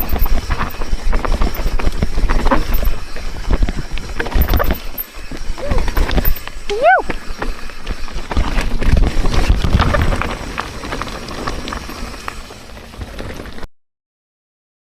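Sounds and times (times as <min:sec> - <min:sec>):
wind rumbling on microphone: 0:00.0 - 0:13.6
bike chain and frame rattling: 0:00.0 - 0:13.7
tyres crunching over dirt: 0:00.0 - 0:13.7.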